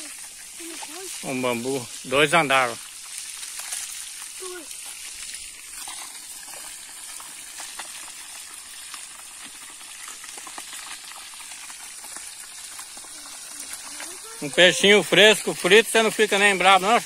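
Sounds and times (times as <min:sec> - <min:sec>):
crackles and pops: 0:00.0 - 0:17.0
fish frying in hot oil: 0:00.0 - 0:17.0.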